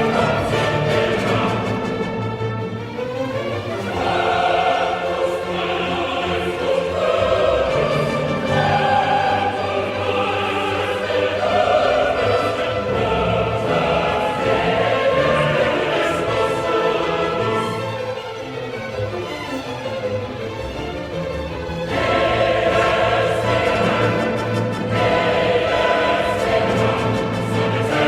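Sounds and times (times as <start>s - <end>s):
choir with orchestra: 0.0s - 28.0s.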